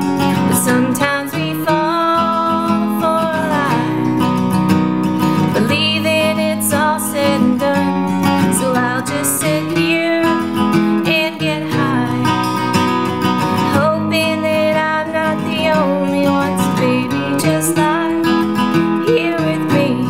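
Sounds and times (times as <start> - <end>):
woman singing: 0.0 - 4.4, 5.2 - 20.0
acoustic guitar chords: 0.0 - 20.0.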